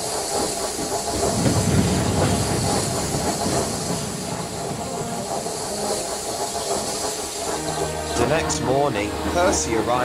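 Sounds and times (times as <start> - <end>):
steam hissing: 0.0 - 10.0
train rumbling on track: 0.0 - 10.0.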